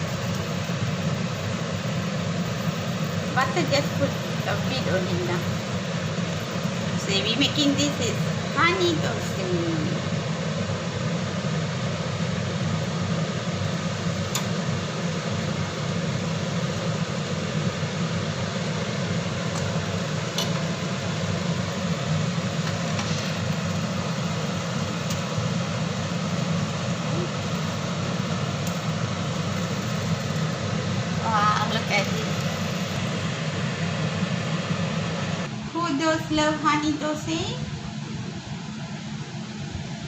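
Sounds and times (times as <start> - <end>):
steady low whirring: 0.0 - 40.0.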